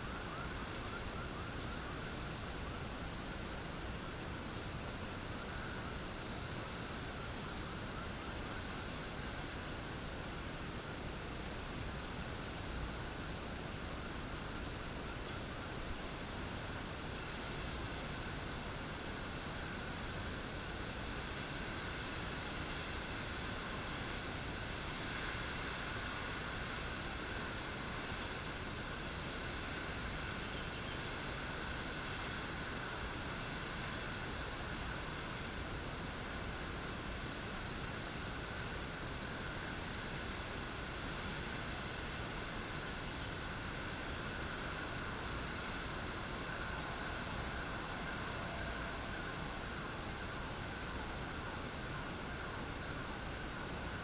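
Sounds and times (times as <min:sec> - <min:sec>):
constant high-pitched tone: 0:00.0 - 0:54.0
light rain falling: 0:00.0 - 0:54.0.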